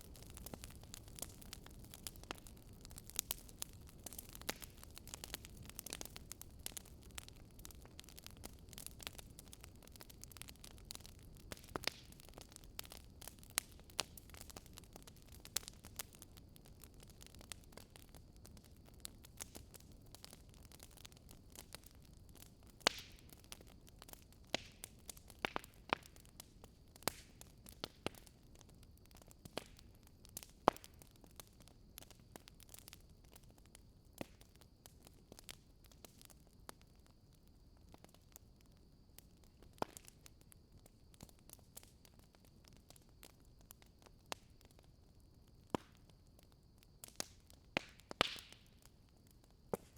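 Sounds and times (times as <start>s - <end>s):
campfire crackling and popping: 0.0s - 49.9s
soft steady hiss: 0.0s - 49.9s.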